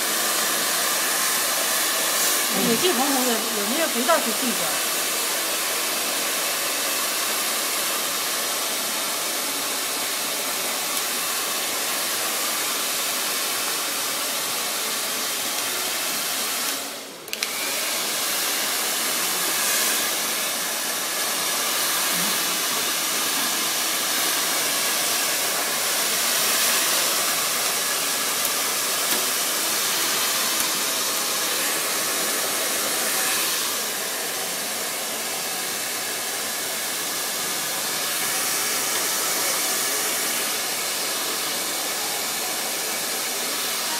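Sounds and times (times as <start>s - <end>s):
blow dryer running: 0.0s - 43.9s.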